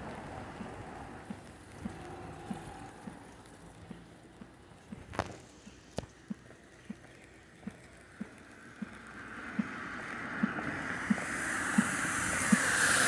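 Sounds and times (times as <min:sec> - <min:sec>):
footsteps on wet pavement: 0:00.0 - 0:12.8
car tyres hissing on wet road: 0:00.0 - 0:13.0.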